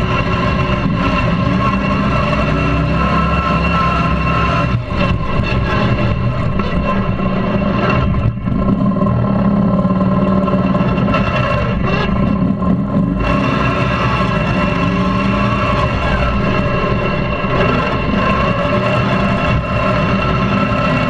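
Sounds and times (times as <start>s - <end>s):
lawn tractor engine running: 0.0s - 21.0s.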